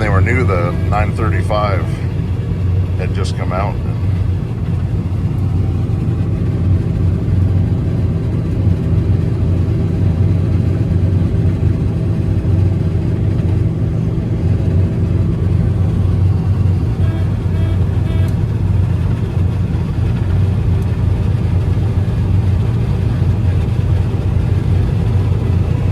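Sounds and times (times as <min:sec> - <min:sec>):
combine harvester droning: 0:00.0 - 0:25.9.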